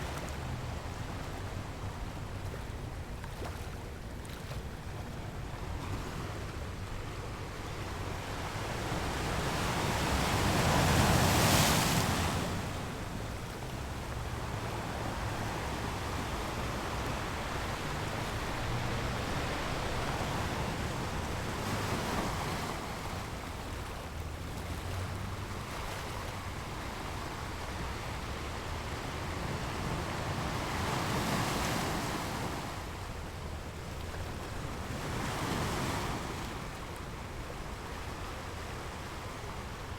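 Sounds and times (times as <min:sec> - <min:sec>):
surf washing on beach: 0:03.8 - 0:39.9.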